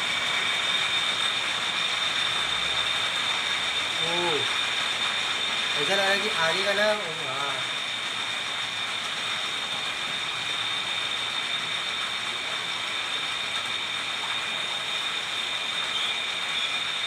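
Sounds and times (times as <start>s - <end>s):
lathe running with whine: 0.0s - 17.0s.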